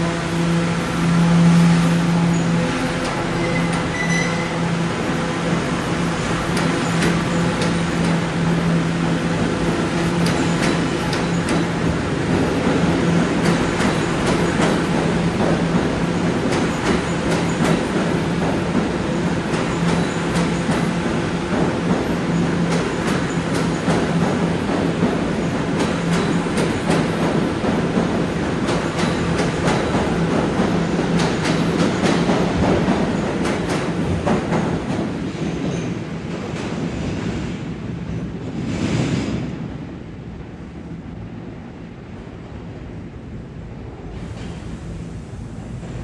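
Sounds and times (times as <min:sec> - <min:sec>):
subway car rumbling: 0:00.0 - 0:46.0.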